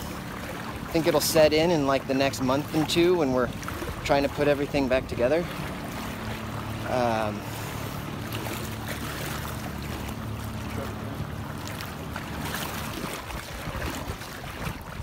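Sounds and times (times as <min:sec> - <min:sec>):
floodwater sloshing and splashing: 0:00.0 - 0:15.0
low motor hum: 0:00.0 - 0:15.0.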